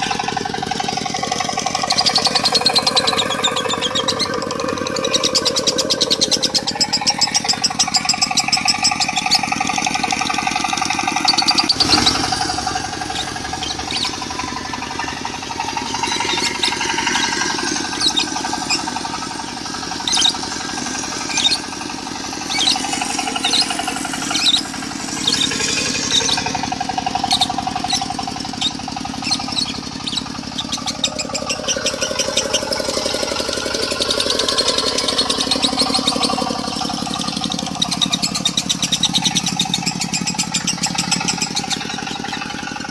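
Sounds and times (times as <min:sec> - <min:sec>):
diesel engine running: 0:00.0 - 0:42.9
lovebird chattering song: 0:00.0 - 0:42.9.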